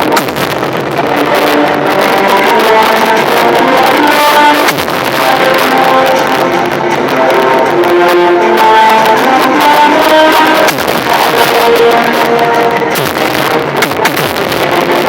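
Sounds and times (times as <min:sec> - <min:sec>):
loud music through car speakers: 0:00.0 - 0:15.0.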